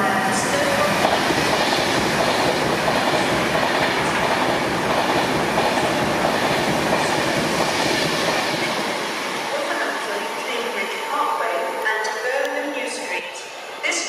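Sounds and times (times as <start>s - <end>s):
electric train rumbling past: 0.0s - 11.8s.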